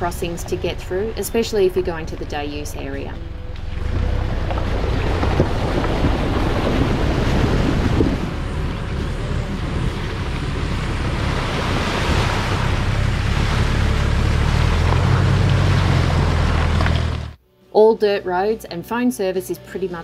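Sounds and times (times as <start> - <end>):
low engine rumble: 0.0 - 17.4
water splashing around wheels: 0.0 - 17.4.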